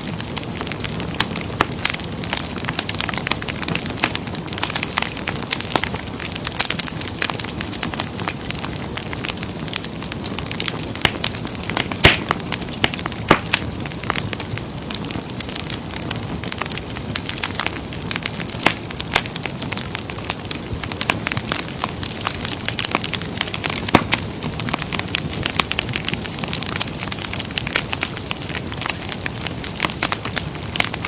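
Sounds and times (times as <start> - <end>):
fireplace fire crackling: 0.0 - 31.0.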